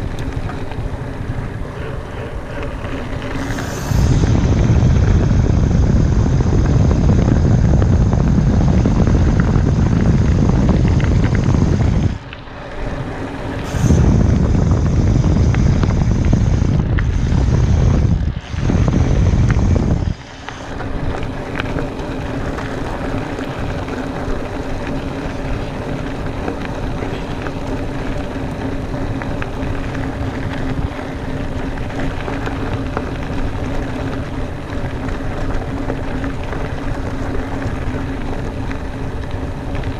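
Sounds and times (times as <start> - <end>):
bike tyres rolling on dirt: 0.0 - 39.9
faint hum: 0.0 - 39.9
wind buffeting microphone: 0.0 - 39.9.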